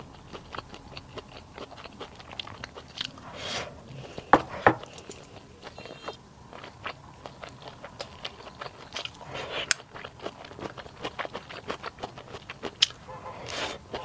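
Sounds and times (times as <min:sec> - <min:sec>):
biting and chewing: 0:00.0 - 0:14.0.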